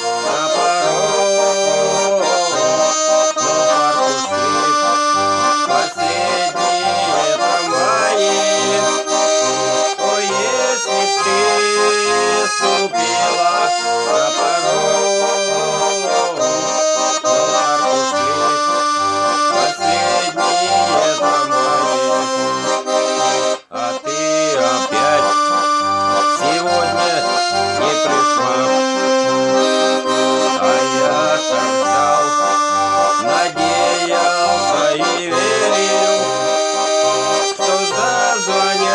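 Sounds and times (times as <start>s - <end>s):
button accordion playing: 0.0s - 38.9s.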